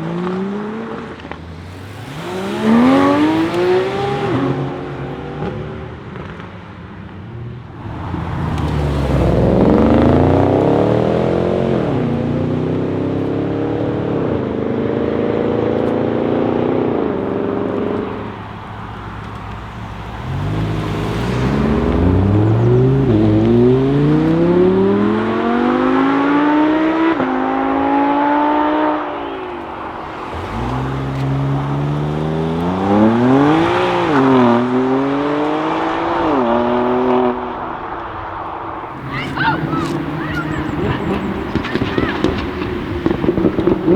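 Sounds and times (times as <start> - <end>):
car engine accelerating through gears: 0.0 - 43.9.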